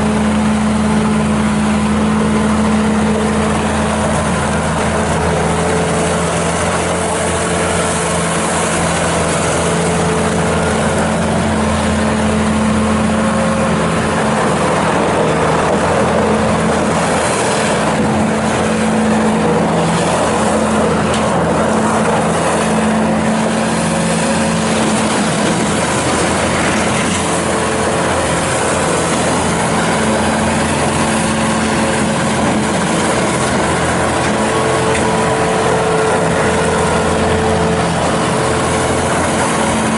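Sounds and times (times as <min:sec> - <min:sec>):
diesel loader engine running: 0:00.0 - 0:39.9.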